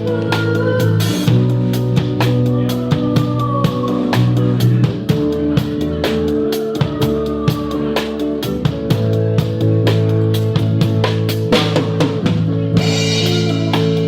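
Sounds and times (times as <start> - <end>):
drum kit beat: 0.0 - 14.0
rock band playing: 0.0 - 14.0.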